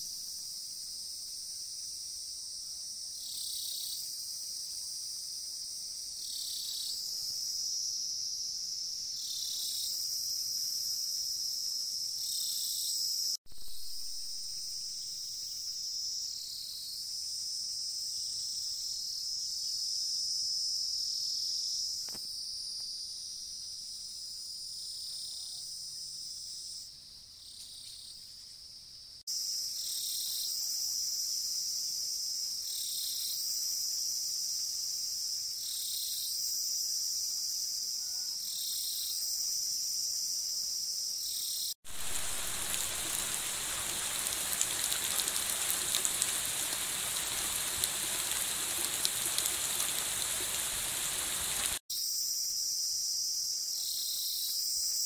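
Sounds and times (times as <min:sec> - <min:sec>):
insects chirring in grass: 0:00.0 - 0:55.0.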